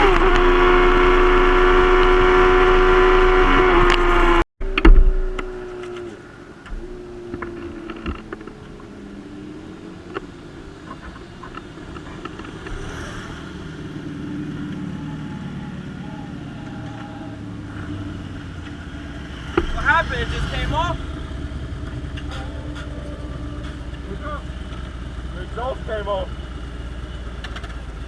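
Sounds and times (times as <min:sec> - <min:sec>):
motorcycle engines humming: 0:00.0 - 0:28.0.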